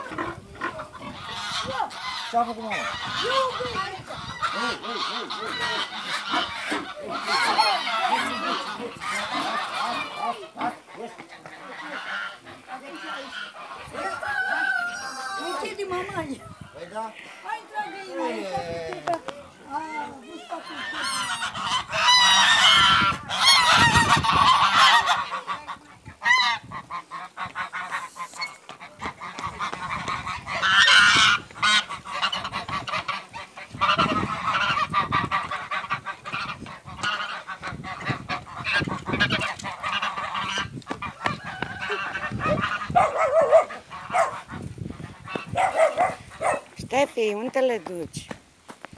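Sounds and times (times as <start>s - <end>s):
geese honking: 0.0s - 48.0s.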